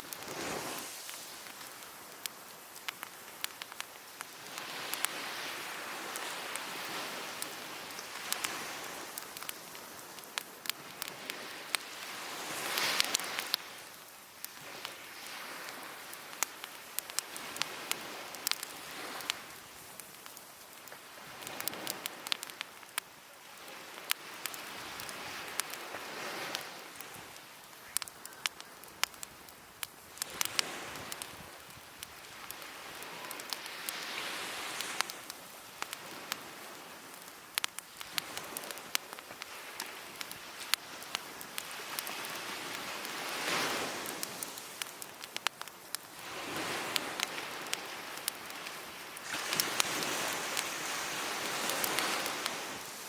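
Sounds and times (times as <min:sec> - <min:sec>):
waves washing on beach: 0:00.0 - 0:53.0
wood fire crackling: 0:00.0 - 0:53.0.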